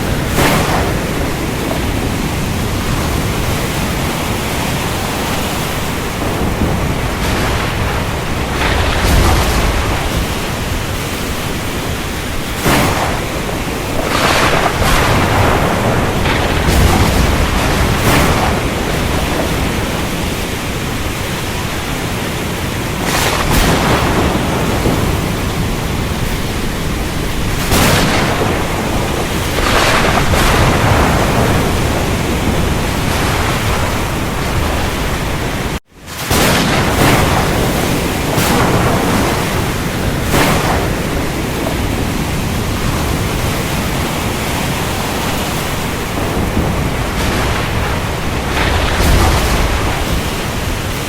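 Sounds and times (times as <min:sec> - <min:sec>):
heavy rain: 0:00.0 - 0:51.0
low thunder rumbling: 0:00.0 - 0:51.0.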